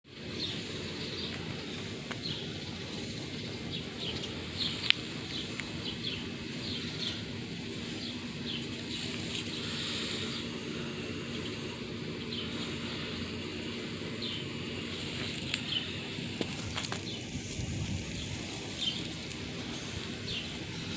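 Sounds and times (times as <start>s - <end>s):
small birds chirping: 0.1s - 20.9s
steady low hum: 0.1s - 20.9s.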